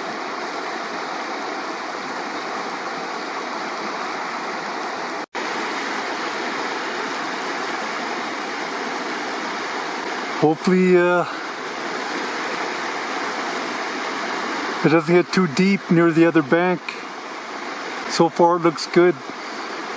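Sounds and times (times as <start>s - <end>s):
river rushing: 0.0s - 19.9s.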